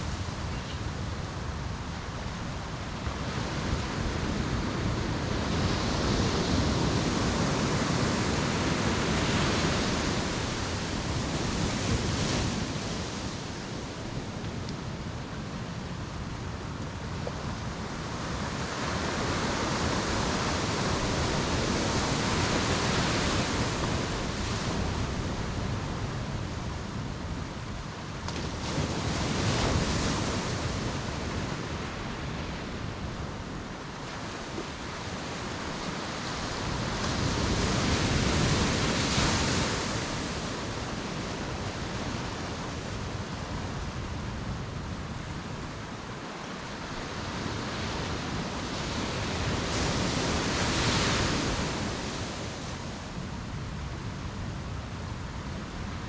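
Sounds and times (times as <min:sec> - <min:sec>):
sea waves breaking on beach: 0:00.0 - 0:53.6.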